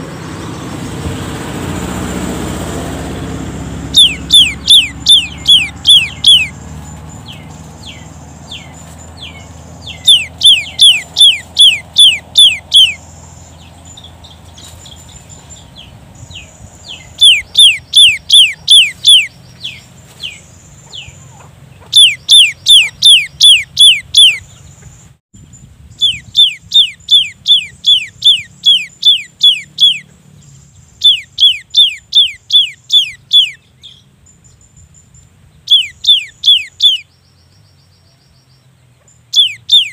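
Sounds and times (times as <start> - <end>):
bird whistled song: 3.9 - 39.9.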